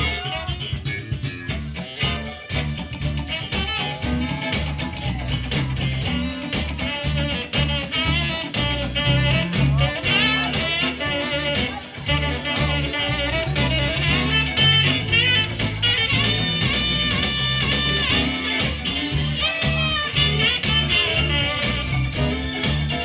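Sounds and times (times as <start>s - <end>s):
bass: 0.0s - 23.0s
drum kit: 0.0s - 23.0s
electric guitar: 0.0s - 23.0s
saxophones: 0.0s - 23.0s.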